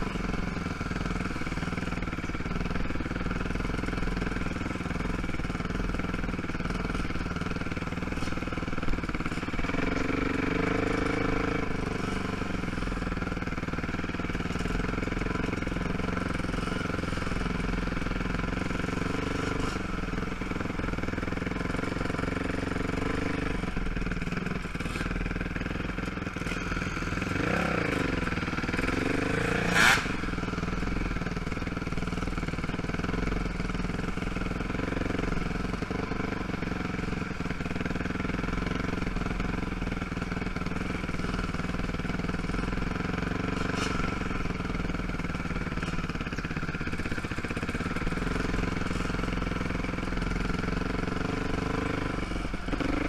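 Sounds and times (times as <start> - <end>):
quad engine running: 0.0 - 53.0.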